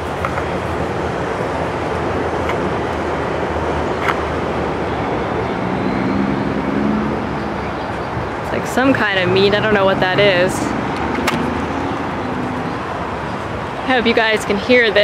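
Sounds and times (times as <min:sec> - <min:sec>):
freeway traffic rumble: 0:00.0 - 0:15.0.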